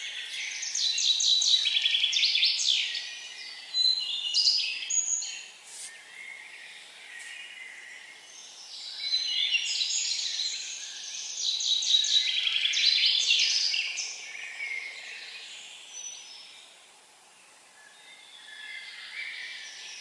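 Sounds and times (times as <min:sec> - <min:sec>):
faint steady hiss: 0:00.0 - 0:20.0
songbirds singing: 0:00.0 - 0:20.0.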